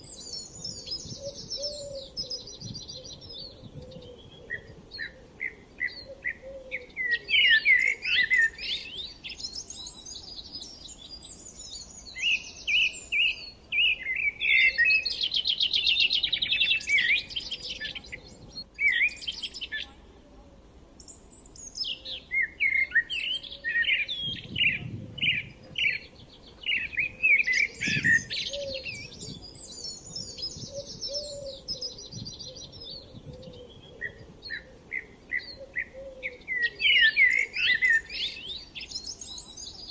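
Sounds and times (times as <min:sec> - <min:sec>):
small birds chirping and singing: 0:00.0 - 0:20.2, 0:20.9 - 0:39.9.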